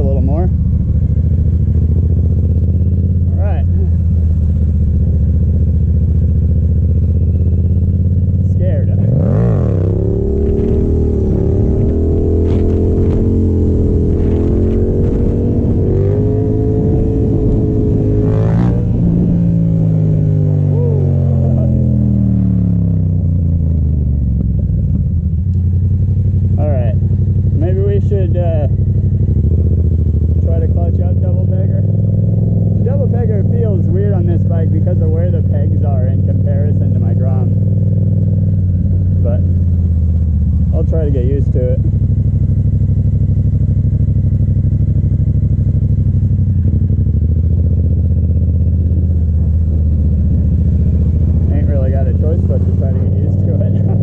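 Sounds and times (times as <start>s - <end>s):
motorcycle engine revs falling: 0.0s - 54.0s.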